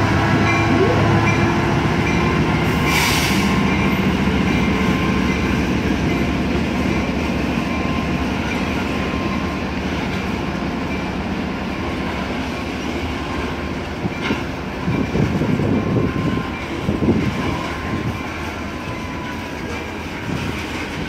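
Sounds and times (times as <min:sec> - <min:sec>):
rumble of train wheels on rails: 0:00.0 - 0:21.0.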